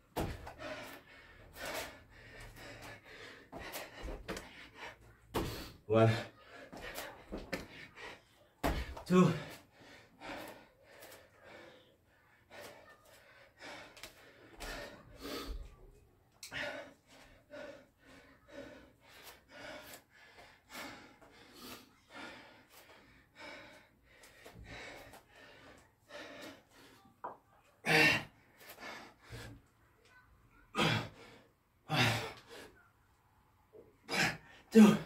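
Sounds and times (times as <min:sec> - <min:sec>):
man breathing hard and gasping: 0:00.2 - 0:15.7, 0:16.4 - 0:27.0, 0:27.8 - 0:29.6, 0:30.7 - 0:32.8, 0:34.0 - 0:35.0.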